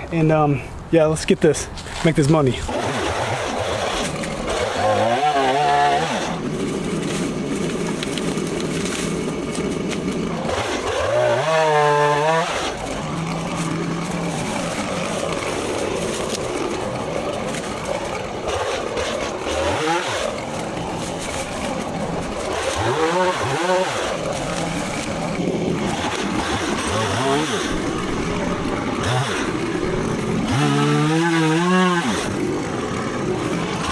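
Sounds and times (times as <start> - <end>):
chainsaw revving: 2.6 - 33.9.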